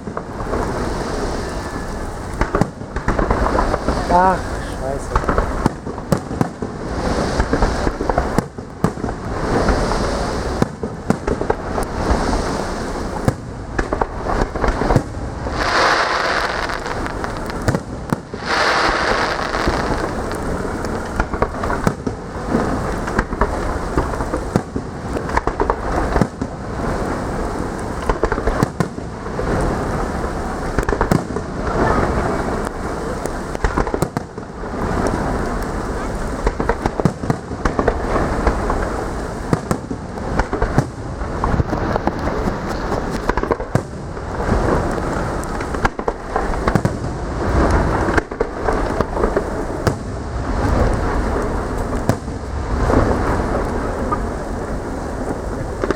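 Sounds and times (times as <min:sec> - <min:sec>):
fireworks bangs: 0:00.0 - 0:55.9
fireworks crackling: 0:00.0 - 0:55.9.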